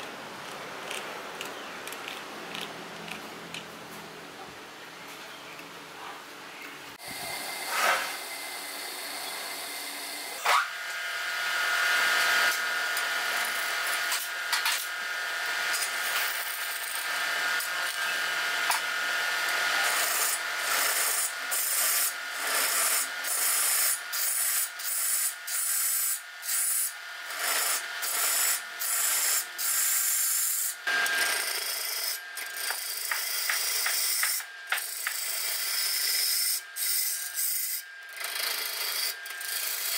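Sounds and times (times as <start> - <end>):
wood lathe spinning: 7.0 - 39.9.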